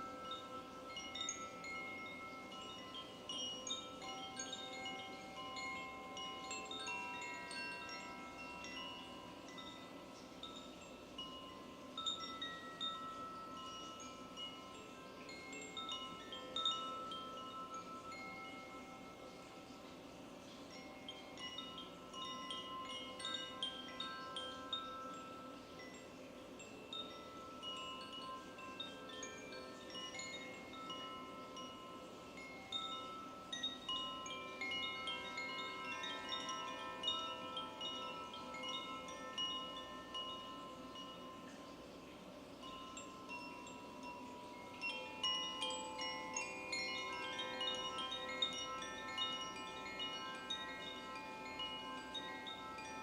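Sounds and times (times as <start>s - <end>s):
chimes ringing: 0.0s - 53.0s.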